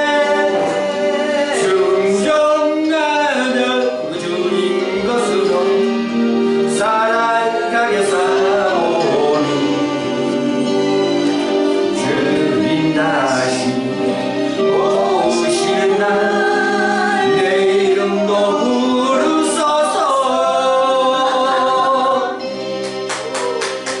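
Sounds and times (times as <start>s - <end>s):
gospel singing over musical backing: 0.0s - 24.0s.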